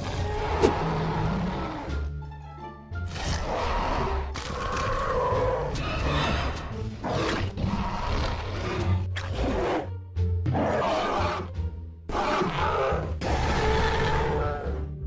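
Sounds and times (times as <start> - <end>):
creature growling and roaring: 0.0 - 2.0, 3.0 - 15.0
background music: 0.0 - 15.0.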